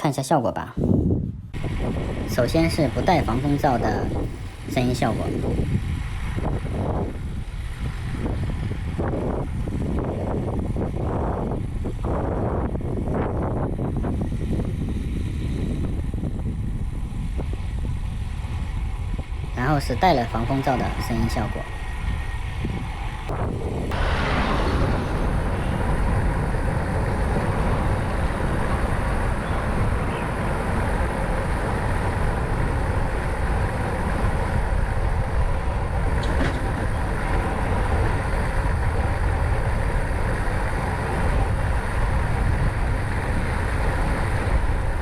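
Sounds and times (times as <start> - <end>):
wind rumble: 0.0 - 45.0
road noise: 1.5 - 45.0.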